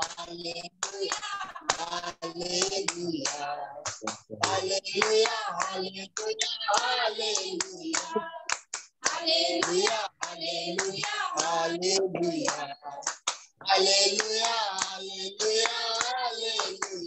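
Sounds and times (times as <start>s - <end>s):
hands clapping: 0.0s - 17.0s
women singing worship song: 0.0s - 17.0s.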